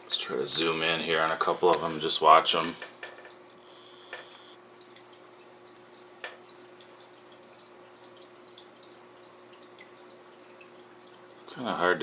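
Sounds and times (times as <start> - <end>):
steady low hum: 0.0 - 11.6
aquarium water trickling: 0.0 - 12.0.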